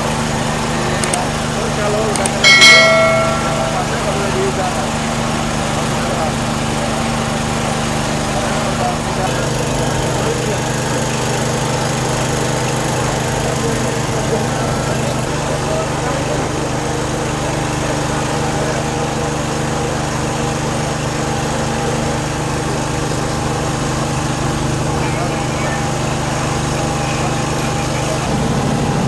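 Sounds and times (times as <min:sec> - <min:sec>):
small engine humming: 0:00.0 - 0:29.0.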